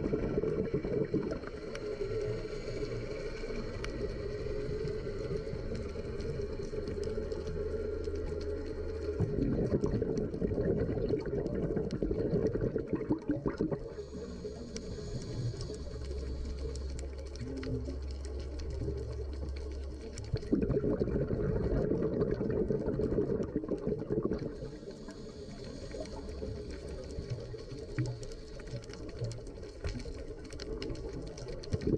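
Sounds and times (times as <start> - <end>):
low steady hum: 0.0 - 31.9
underwater bubbles gurgling: 0.0 - 31.9.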